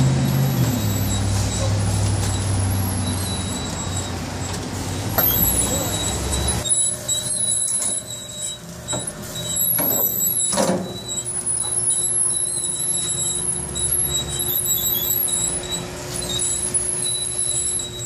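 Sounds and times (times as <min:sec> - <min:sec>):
thin high whines: 0:00.2 - 0:18.0
short squeals: 0:00.3 - 0:18.0.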